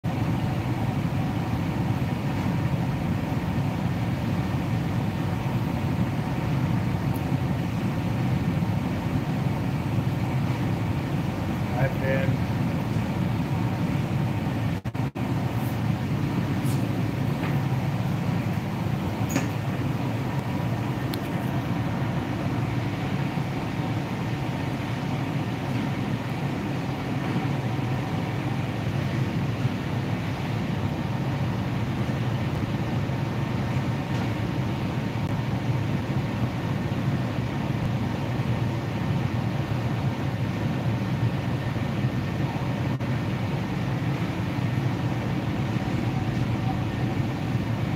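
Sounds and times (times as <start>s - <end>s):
faint hum: 0.0s - 47.9s
low machinery drone: 0.0s - 47.9s.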